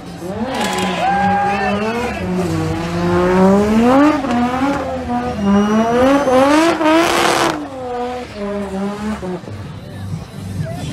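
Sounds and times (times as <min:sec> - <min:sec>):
car engine revving hard: 0:00.0 - 0:09.7.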